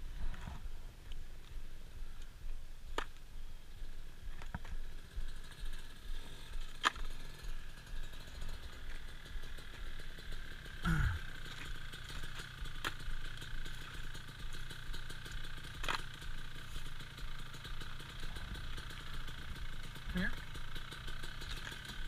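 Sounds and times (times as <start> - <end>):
distant dirt bike engine: 0.0 - 22.0.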